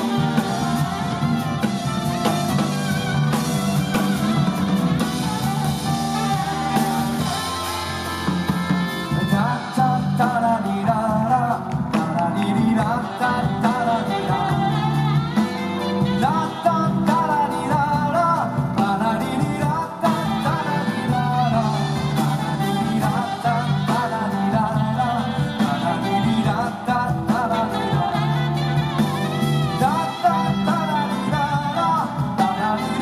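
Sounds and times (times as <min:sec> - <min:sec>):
live band music: 0:00.0 - 0:33.0
sliding melody line: 0:00.0 - 0:33.0.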